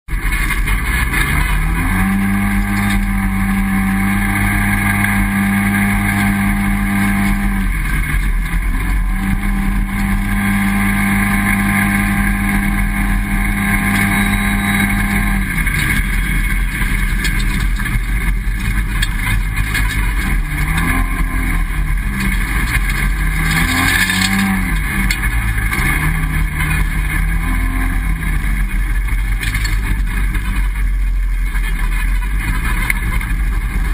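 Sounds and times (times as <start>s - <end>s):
off-road vehicle engine running: 0.1s - 33.9s
tyres on gravel: 0.1s - 33.9s
wind: 0.1s - 33.9s.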